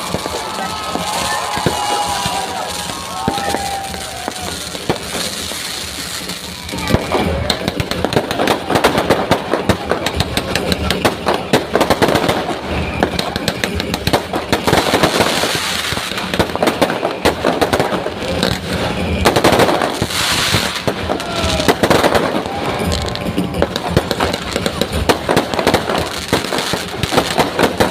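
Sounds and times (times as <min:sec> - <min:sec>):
fireworks crackling and banging: 0:00.0 - 0:27.9.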